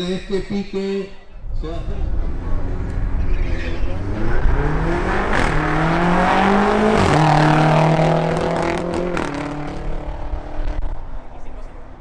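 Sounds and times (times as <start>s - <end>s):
cars accelerating hard: 1.9s - 12.0s.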